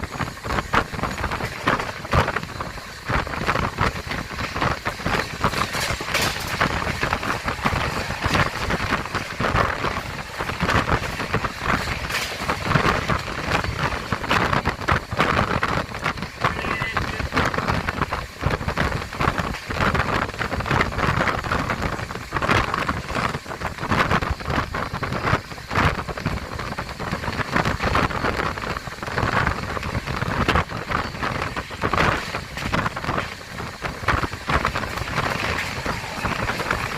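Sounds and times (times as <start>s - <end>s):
train rattling and clatter: 0.0s - 36.9s
train rushing noise: 0.0s - 36.9s.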